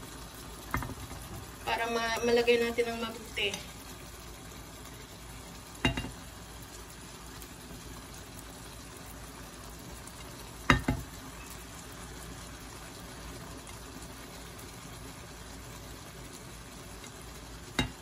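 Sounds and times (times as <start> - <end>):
sauce simmering in frying pan: 0.0 - 18.0.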